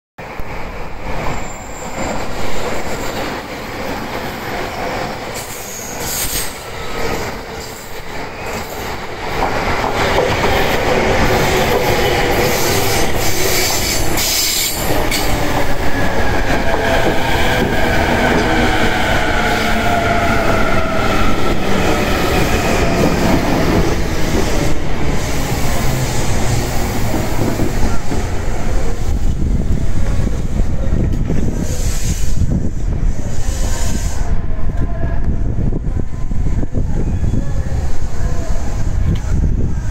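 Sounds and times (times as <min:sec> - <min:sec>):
train wheels rushing on rail: 0:00.2 - 0:39.9.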